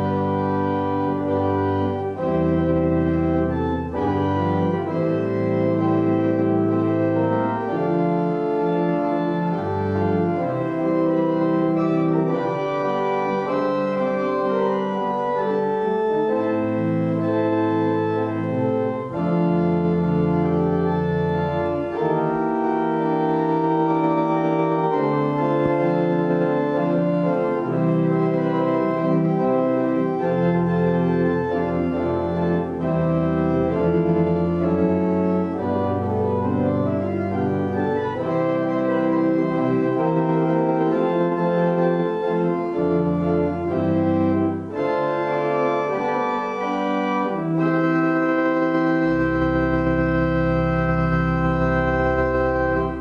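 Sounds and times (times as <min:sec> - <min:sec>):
organ playing sustained chords: 0:00.0 - 0:53.0.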